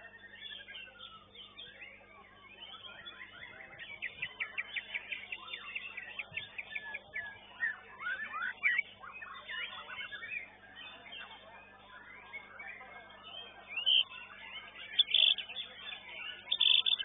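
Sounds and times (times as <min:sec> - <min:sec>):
songbird singing whistles and chirps: 0:00.0 - 0:17.0.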